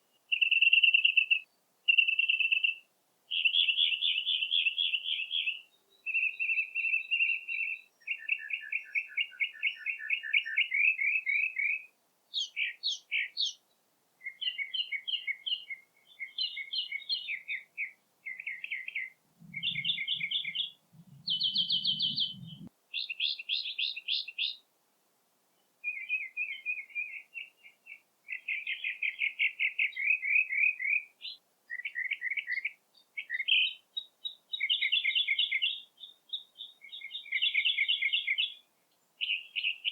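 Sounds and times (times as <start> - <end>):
songbird trills and chirps: 0.0 - 24.7, 25.5 - 39.9.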